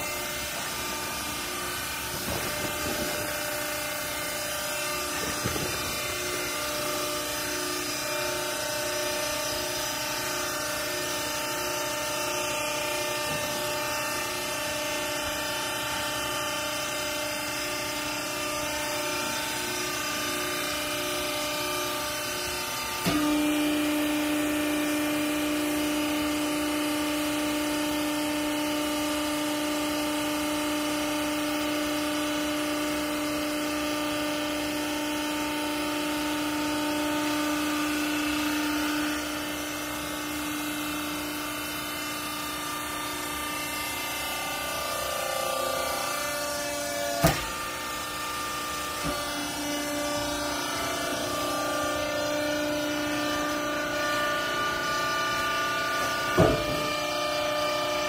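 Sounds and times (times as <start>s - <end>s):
hydraulic baler motor drone: 0.0s - 58.0s.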